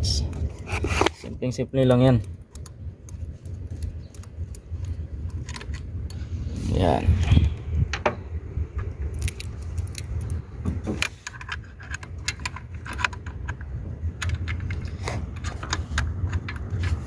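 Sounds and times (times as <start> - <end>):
low rumble: 2.2 - 17.0.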